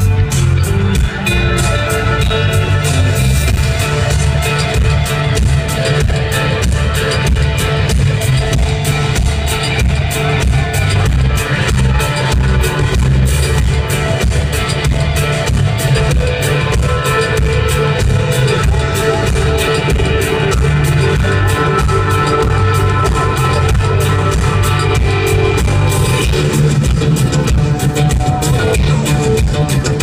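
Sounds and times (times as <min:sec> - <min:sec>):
drum kit steady beat: 0:00.0 - 0:30.0
live band playing loud: 0:00.0 - 0:30.0.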